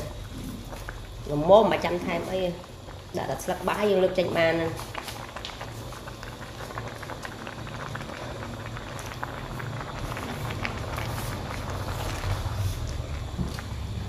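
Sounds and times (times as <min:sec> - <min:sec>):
soup bubbling in a pot: 0:00.0 - 0:14.0.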